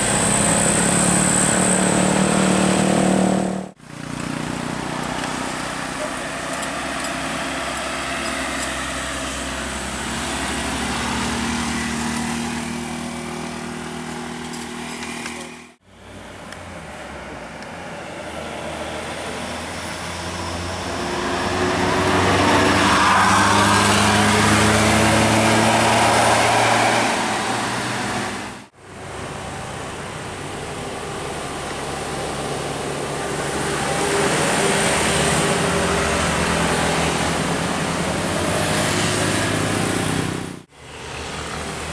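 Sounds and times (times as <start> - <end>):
tyres hissing on wet road: 0.0 - 14.3, 19.7 - 41.9
diesel bus engines: 0.0 - 41.9.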